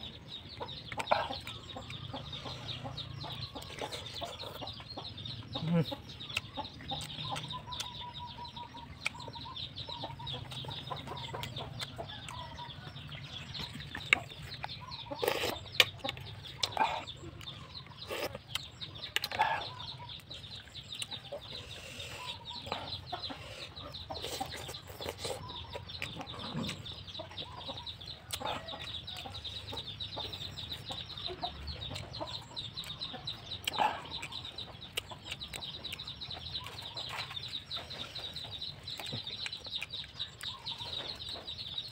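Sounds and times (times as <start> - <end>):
chickens clucking: 0.0 - 41.9
man eating with fingers: 0.1 - 41.9.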